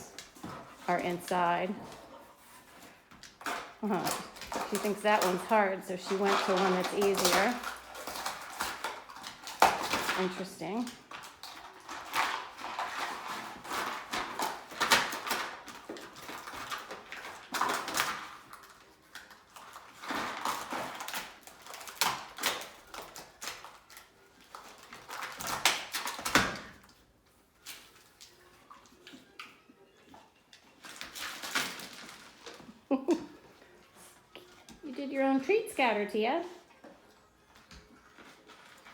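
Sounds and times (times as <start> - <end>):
dog ripping at a box: 0.0 - 29.3, 30.7 - 33.3, 37.6 - 38.9.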